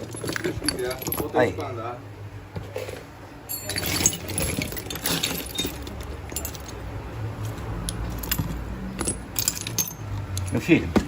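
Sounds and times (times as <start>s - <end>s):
metal parts clinking: 0.0s - 1.7s, 3.5s - 10.8s.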